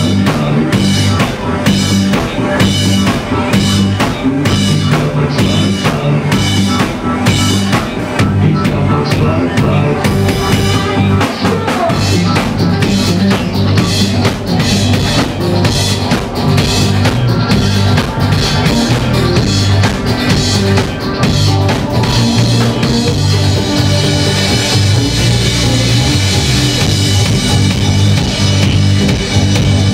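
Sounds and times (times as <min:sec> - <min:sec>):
electronic dance music: 0:00.0 - 0:29.9.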